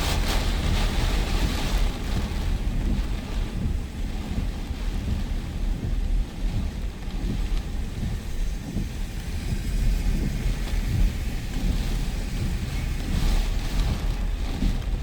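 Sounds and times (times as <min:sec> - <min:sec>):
heavy rain hiss: 0:00.0 - 0:15.0
wind buffeting microphone: 0:00.0 - 0:15.0.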